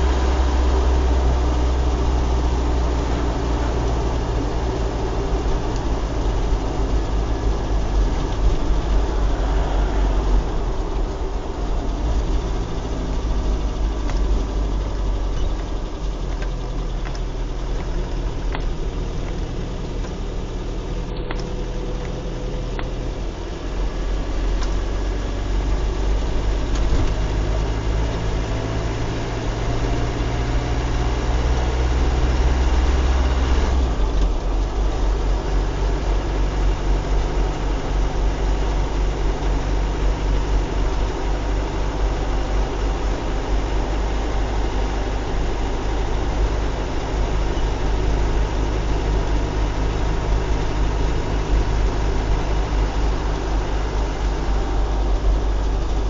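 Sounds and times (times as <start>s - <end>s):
car engine: 0.0s - 56.0s
tyres on wet road: 0.0s - 56.0s.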